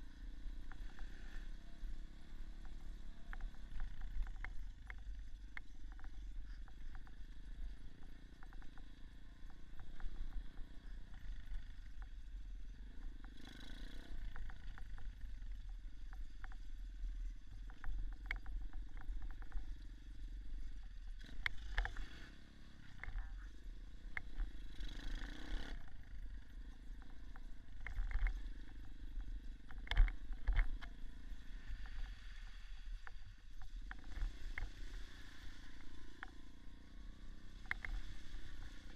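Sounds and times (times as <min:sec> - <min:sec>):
dirt bike engine rumble: 0:00.0 - 0:38.9.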